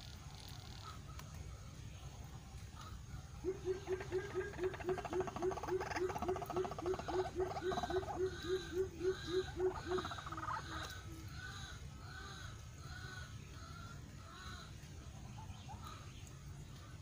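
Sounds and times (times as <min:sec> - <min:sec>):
waterhen calling: 0:02.8 - 0:17.0.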